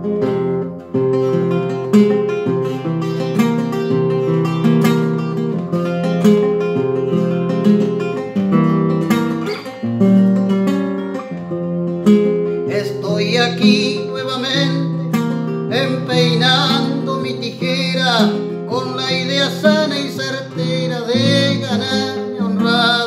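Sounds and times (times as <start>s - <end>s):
solo classical guitar: 0.0s - 23.0s.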